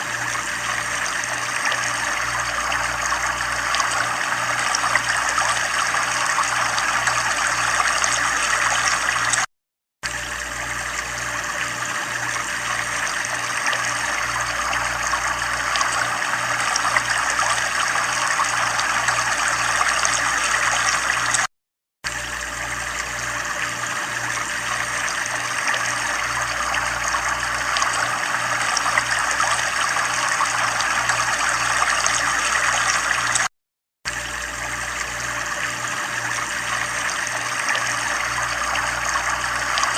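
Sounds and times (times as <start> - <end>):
water trickling: 0.0 - 21.5, 22.1 - 33.5, 34.1 - 39.9.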